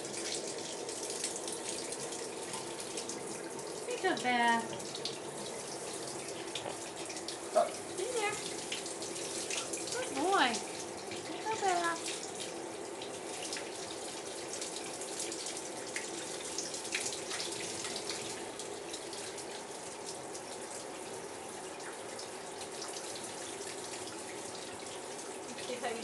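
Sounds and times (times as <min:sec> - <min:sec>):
shower water spraying: 0:00.0 - 0:26.0.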